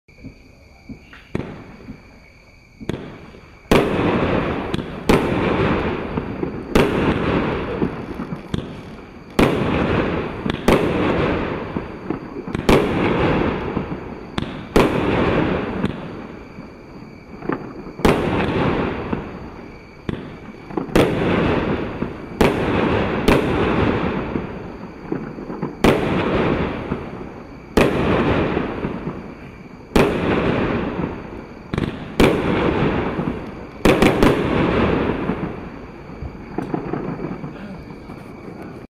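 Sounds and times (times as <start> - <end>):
firework bangs with rumble: 2.8 - 38.2.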